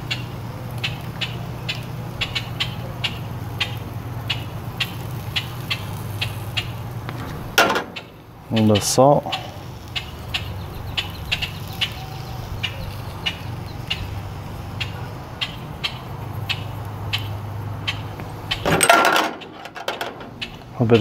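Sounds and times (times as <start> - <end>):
grackles chack calls: 0.0 - 6.9, 7.6 - 21.0.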